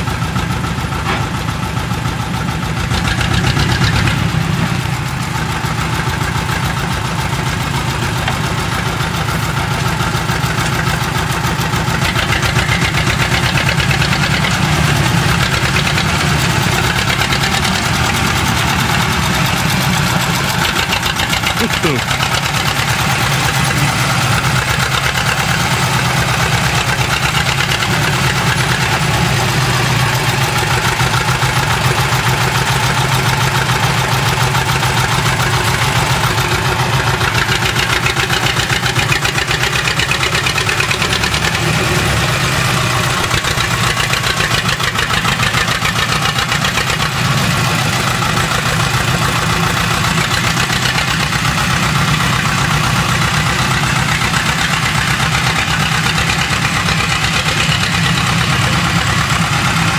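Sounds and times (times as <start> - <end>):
diesel excavator engine running: 0.0 - 59.9.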